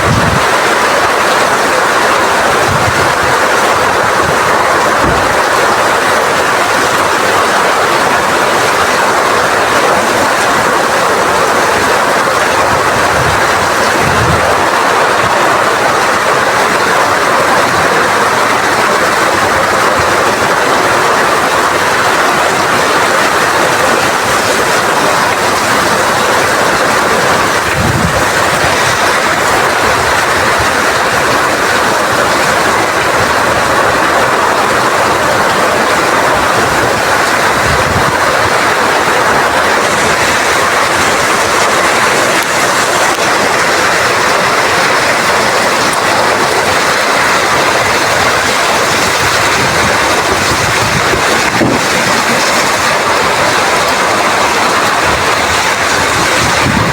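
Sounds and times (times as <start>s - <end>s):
heavy rain in strong wind: 0.0s - 56.9s.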